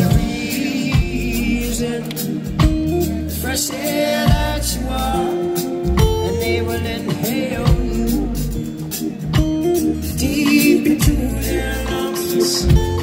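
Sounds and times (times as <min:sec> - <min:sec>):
deep bass line: 0:00.0 - 0:13.0
person singing: 0:00.0 - 0:13.0.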